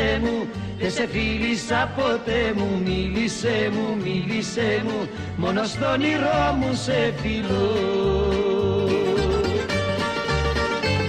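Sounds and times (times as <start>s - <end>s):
plucked-string notes: 0.0s - 11.0s.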